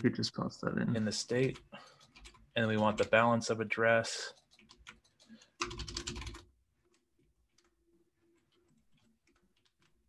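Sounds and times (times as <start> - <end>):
computer keyboard typing: 1.0 - 10.0.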